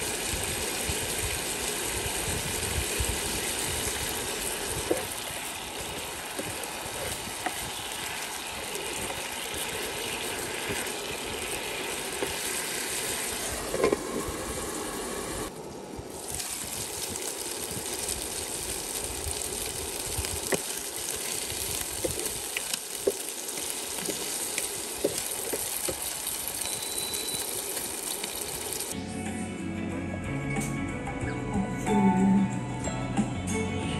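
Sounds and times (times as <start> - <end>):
sauce bubbling: 0.0 - 15.5, 16.1 - 29.0
chicken sizzling in a frying pan: 0.0 - 29.0.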